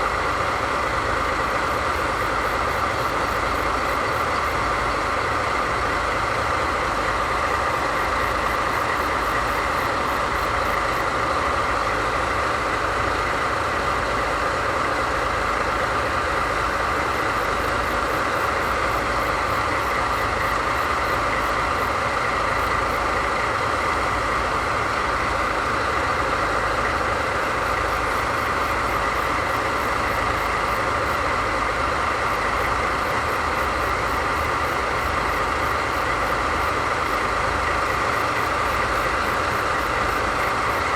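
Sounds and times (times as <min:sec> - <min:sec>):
diesel locomotive engines idling: 0:00.0 - 0:40.9.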